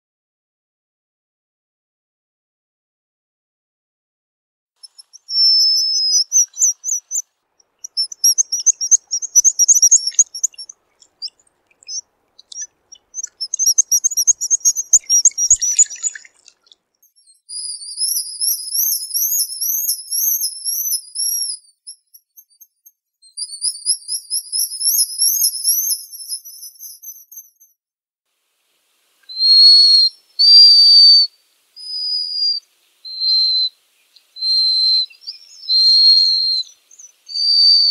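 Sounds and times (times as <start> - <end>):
seabird whistling and trilling: 4.8 - 7.2, 7.8 - 27.7, 29.2 - 37.9.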